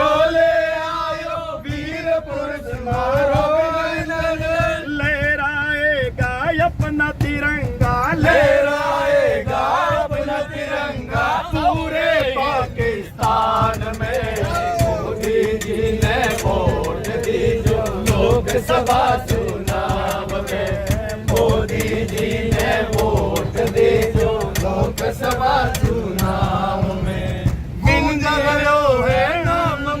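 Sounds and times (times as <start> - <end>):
male voices chanting: 0.0 - 30.0.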